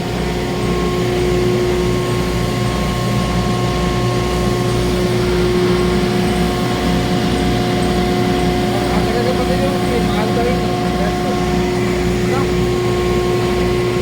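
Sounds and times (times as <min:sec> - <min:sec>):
grinding machine humming and throbbing: 0:00.0 - 0:14.0.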